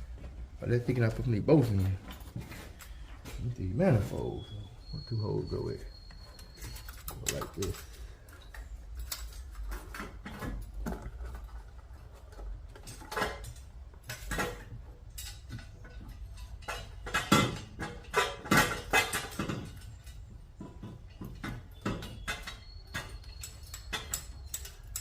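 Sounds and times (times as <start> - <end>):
metal parts clinking and clanking: 0.9 - 25.0.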